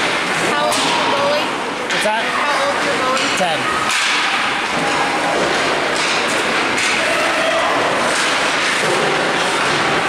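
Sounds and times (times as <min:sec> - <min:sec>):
sticks and pucks clacking: 0:00.0 - 0:01.2, 0:01.8 - 0:02.2, 0:03.0 - 0:10.0.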